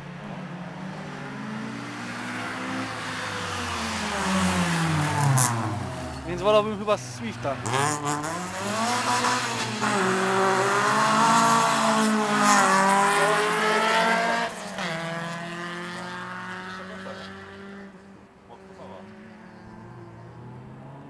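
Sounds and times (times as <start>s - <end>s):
race car engine accelerating: 0.5s - 21.0s.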